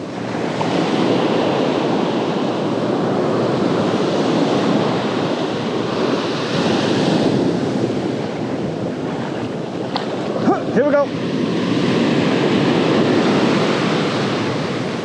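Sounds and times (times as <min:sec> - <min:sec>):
ocean surf on beach: 0:00.0 - 0:15.0
wind on microphone: 0:00.0 - 0:15.0.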